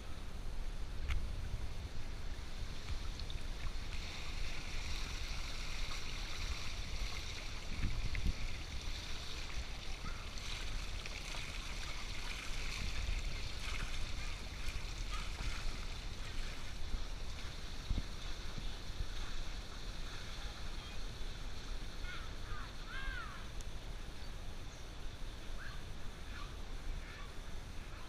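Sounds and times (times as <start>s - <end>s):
pool water hissing: 0.0s - 28.0s
wind rumble on microphone: 0.0s - 28.0s.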